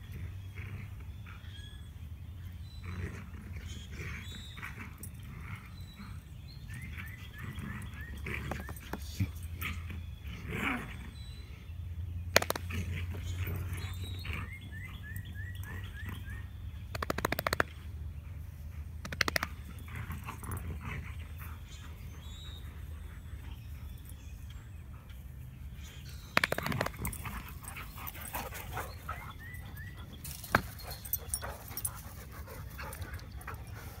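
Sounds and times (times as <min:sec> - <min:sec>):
dogs vocalising: 0:02.5 - 0:11.7, 0:12.4 - 0:34.0.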